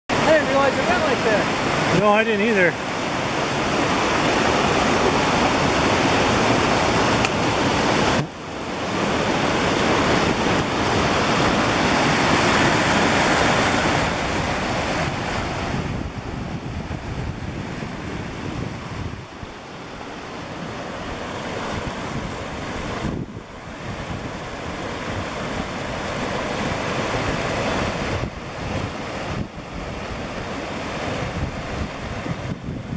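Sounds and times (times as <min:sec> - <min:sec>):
waterfall rushing over rocks: 0:00.1 - 0:17.4, 0:18.8 - 0:32.7.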